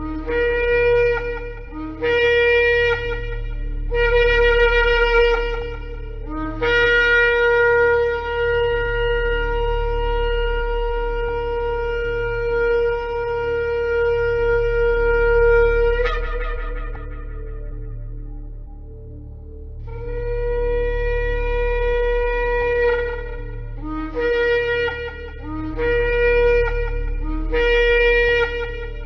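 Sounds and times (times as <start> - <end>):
ram's horn blasts: 0.0 - 19.0, 19.9 - 29.0.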